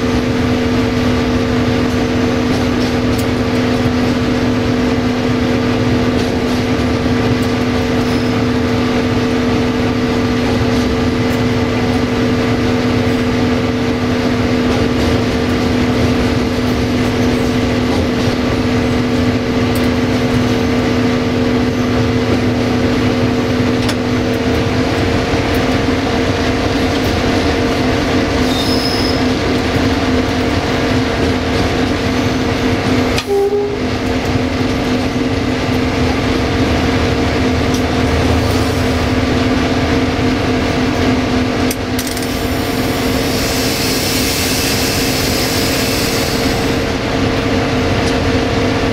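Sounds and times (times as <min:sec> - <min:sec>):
locomotive diesel engine drone: 0:00.0 - 0:48.9
wheels rumbling on track: 0:00.0 - 0:48.9.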